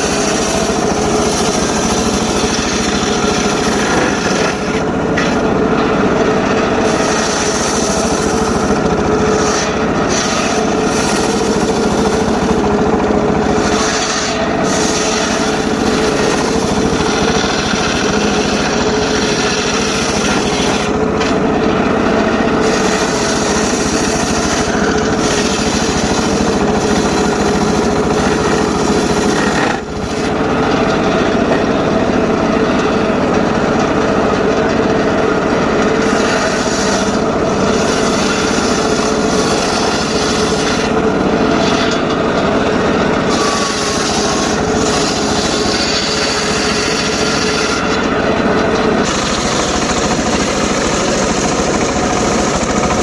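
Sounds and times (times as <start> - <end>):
circular saw cutting wood: 0.0 - 53.0.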